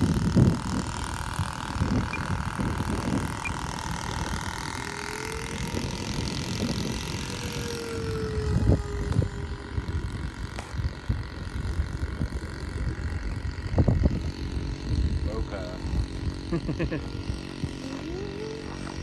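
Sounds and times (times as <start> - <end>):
ducted fan jet whine: 0.0 - 19.0
second lower whine: 0.0 - 19.0
wind buffeting microphone: 0.0 - 19.0.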